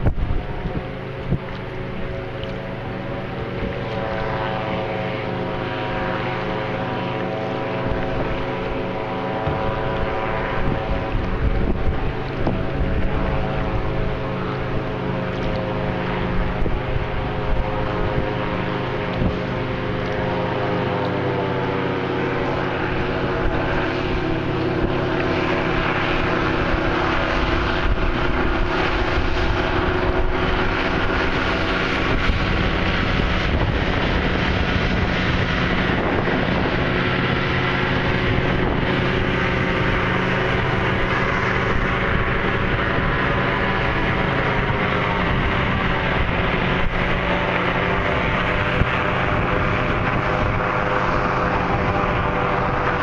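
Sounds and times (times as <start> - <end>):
airboat engine droning: 0.0 - 53.0
wind noise on microphone: 0.0 - 53.0.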